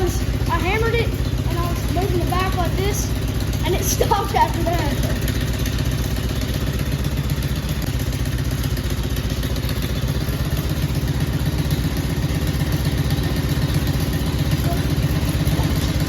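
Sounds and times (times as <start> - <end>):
atv engine idling: 0.0 - 16.0.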